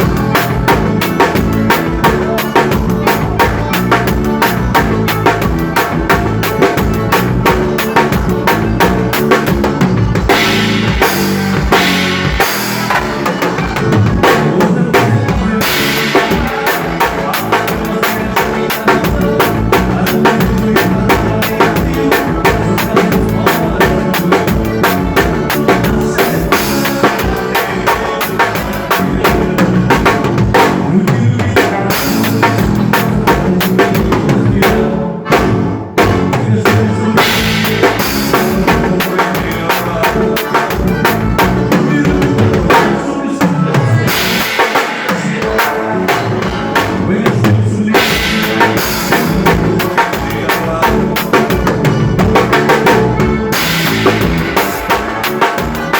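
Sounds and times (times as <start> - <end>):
drum kit playing: 0.0 - 55.9
music with bass line: 0.0 - 55.9.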